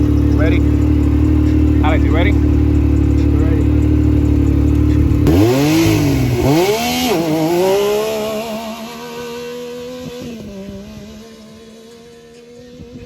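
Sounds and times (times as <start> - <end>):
vehicle engine accelerating with upshifts: 0.0 - 13.0.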